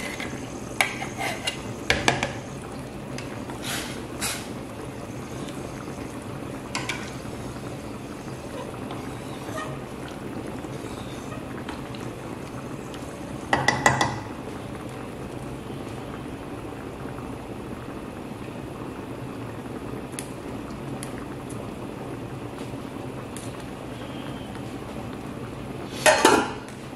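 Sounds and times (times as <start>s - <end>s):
liquid simmering in a pot: 0.0s - 26.9s.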